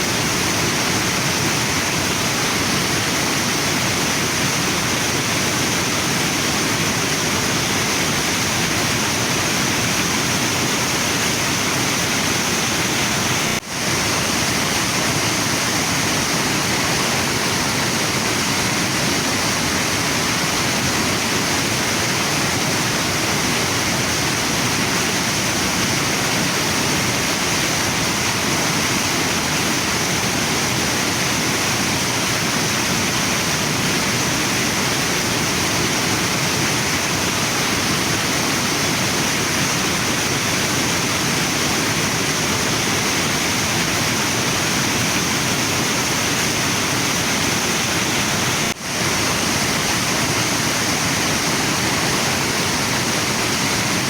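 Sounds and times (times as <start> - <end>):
waterfall and river rushing: 0.0 - 54.0.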